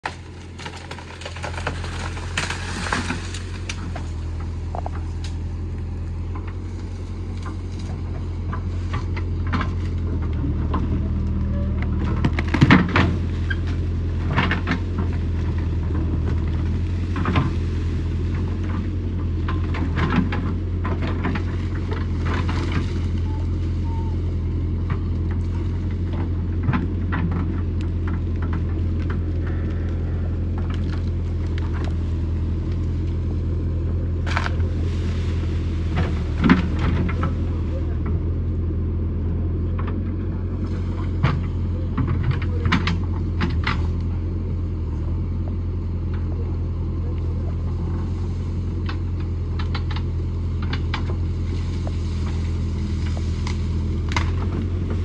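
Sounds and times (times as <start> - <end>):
diesel engine running: 0.0 - 55.0
soil and branches cracking and falling: 0.0 - 55.0.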